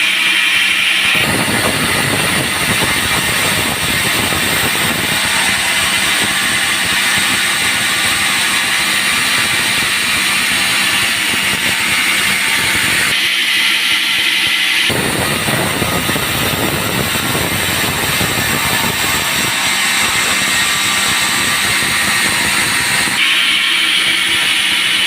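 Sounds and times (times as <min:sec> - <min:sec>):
band saw cutting timber: 0:00.0 - 0:25.0.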